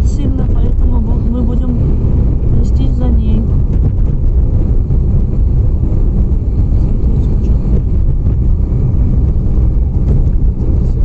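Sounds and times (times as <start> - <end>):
blizzard wind against car: 0.0 - 11.0
car driving rumble from inside: 0.0 - 11.0.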